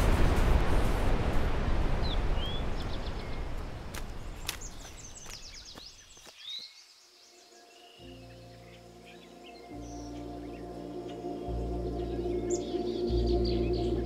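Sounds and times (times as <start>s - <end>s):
small birds chirping and trilling: 2.0s - 14.0s.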